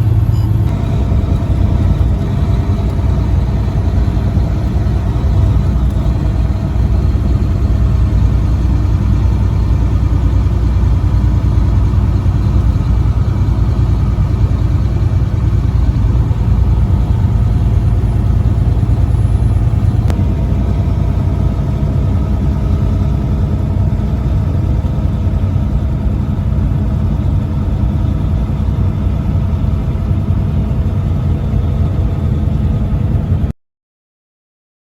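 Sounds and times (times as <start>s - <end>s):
truck engine droning: 0.0s - 33.5s.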